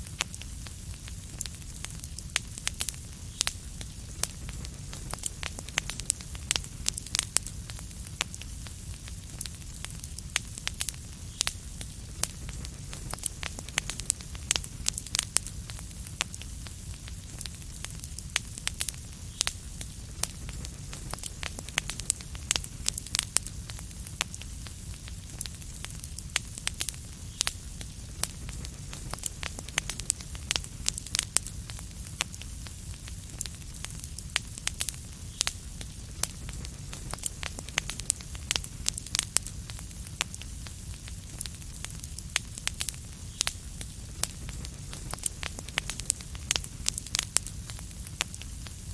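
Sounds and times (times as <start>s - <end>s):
low rumble of burning: 0.0s - 48.9s
wood fire crackling and popping: 0.0s - 48.9s.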